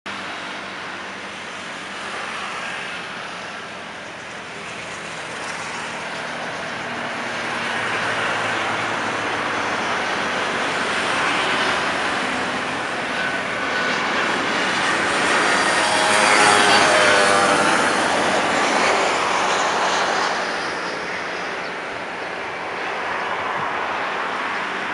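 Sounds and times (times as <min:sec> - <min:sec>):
jet engines roaring: 0:00.1 - 0:24.9.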